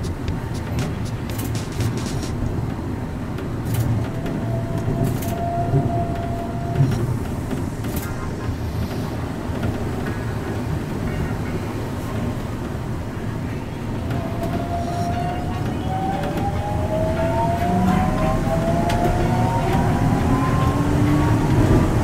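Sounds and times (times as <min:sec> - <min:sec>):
train running rumble: 0:00.0 - 0:22.0.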